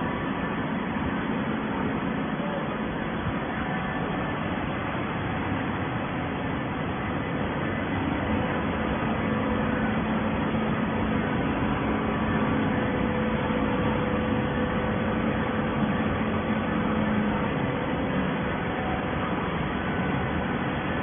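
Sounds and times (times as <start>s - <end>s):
hydraulic baler machine hum: 0.0s - 21.0s.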